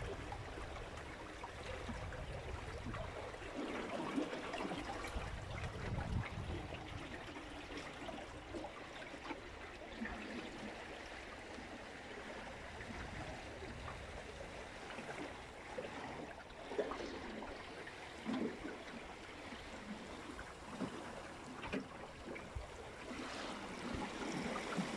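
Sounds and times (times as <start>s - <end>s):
water rushing along hull: 0.0s - 24.9s
waves splashing against hull: 0.0s - 24.9s.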